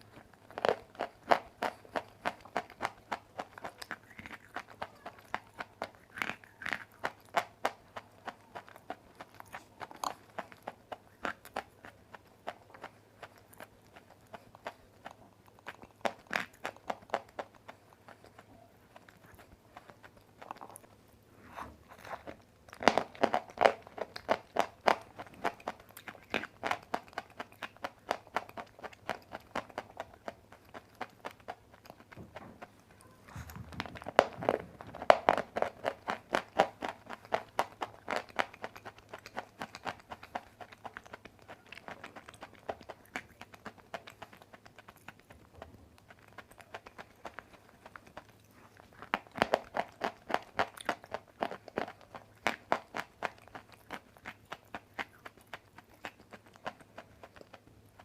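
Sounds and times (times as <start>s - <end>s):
chewing crunches: 0.0s - 58.0s.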